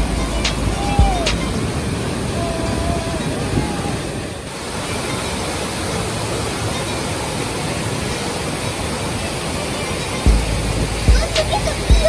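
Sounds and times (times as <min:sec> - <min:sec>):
water rushing over rapids: 0:00.0 - 0:12.0.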